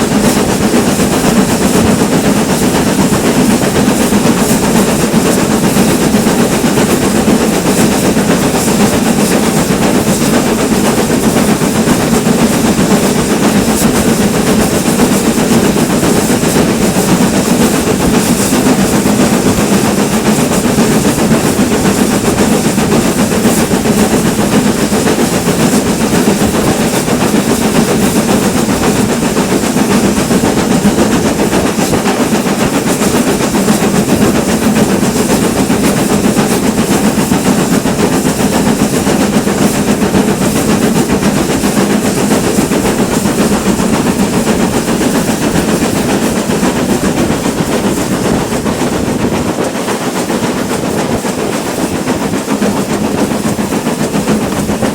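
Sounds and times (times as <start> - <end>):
rail noise: 0.0 - 54.9
steam train rumbling: 0.0 - 54.9.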